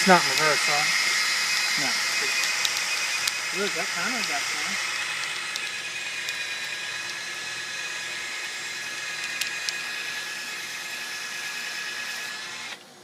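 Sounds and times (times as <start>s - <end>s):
drill whining: 0.0s - 13.0s.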